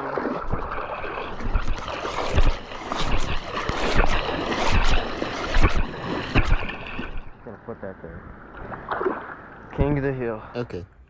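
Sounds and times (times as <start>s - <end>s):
wading splashes in water: 0.0s - 7.4s, 8.3s - 10.3s.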